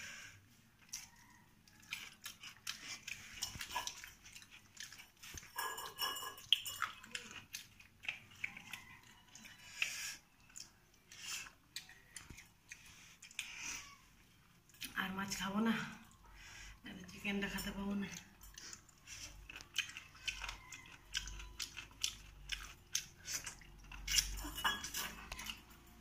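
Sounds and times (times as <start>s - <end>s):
chewing and lip-smacking: 0.5s - 15.4s, 16.0s - 26.0s.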